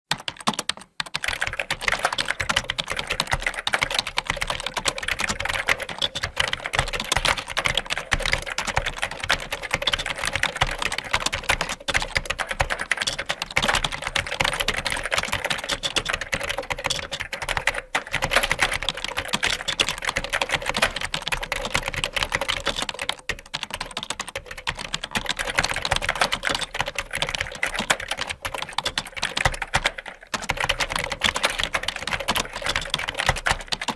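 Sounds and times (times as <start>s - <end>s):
fast typing on a keyboard: 0.0s - 33.9s.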